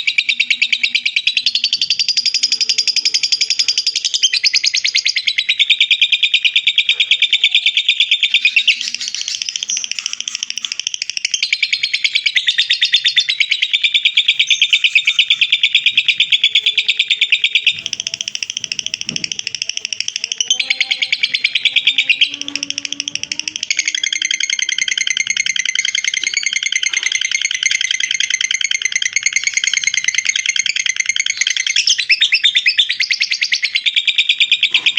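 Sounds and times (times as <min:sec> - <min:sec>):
lovebird chattering trill: 0:00.0 - 0:34.9.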